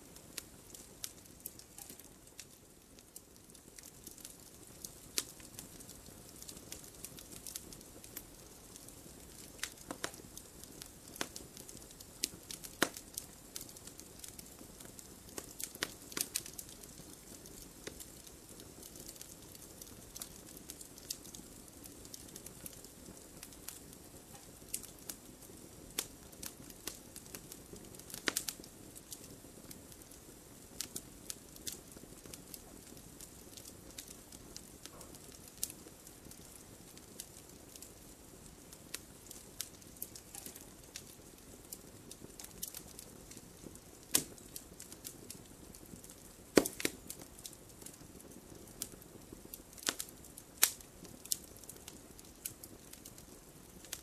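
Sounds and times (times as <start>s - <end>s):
campfire crackling and popping: 0.0s - 54.0s
low hiss of flames: 0.0s - 54.0s.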